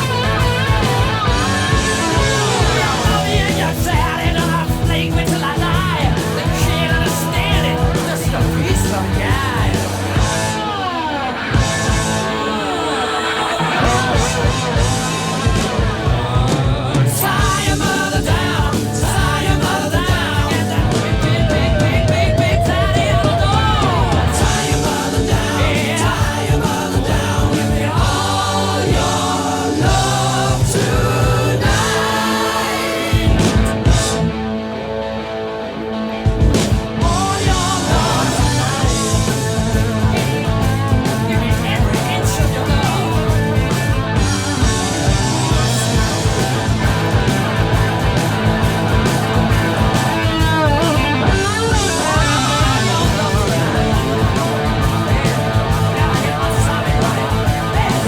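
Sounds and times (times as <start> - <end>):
music with singing voices: 0.0 - 58.0.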